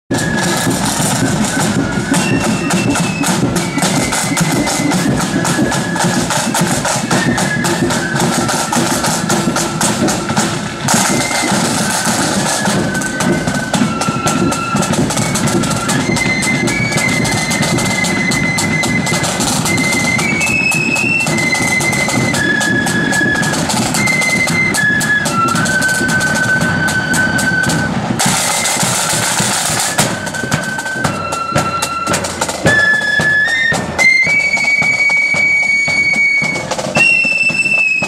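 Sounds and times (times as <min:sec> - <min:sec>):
flutes playing a tune: 0:00.1 - 0:38.0
side drum rolls: 0:00.1 - 0:38.0.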